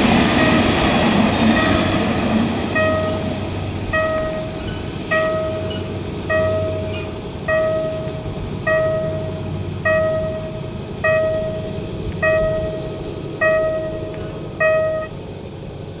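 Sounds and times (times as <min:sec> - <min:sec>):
level crossing warning bell: 0:00.0 - 0:15.2.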